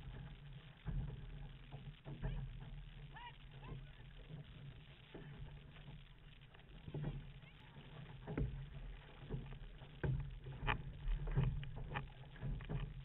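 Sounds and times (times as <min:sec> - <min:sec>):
paddles splashing in water: 0:00.0 - 0:13.0
water rushing along hull: 0:00.0 - 0:13.0.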